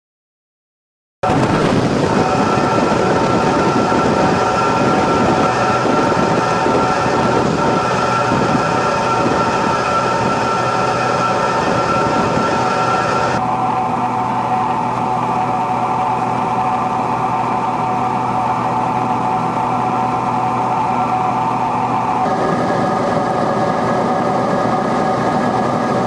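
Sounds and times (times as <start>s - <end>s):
propeller aircraft engine drone in cabin: 1.2s - 26.0s.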